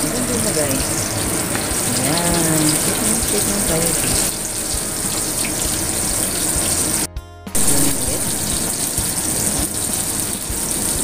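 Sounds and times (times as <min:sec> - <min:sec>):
running water hiss: 0:00.0 - 0:11.0.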